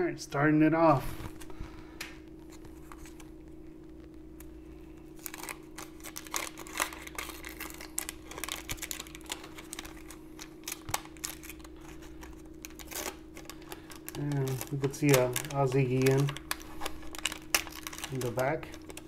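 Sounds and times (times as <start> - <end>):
low hum: 0.0 - 19.0
wax-paper wrapper crinkling: 1.2 - 19.0.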